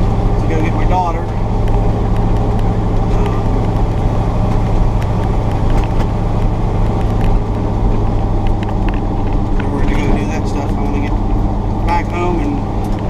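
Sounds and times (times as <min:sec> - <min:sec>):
pickup truck engine droning: 0:00.0 - 0:13.0.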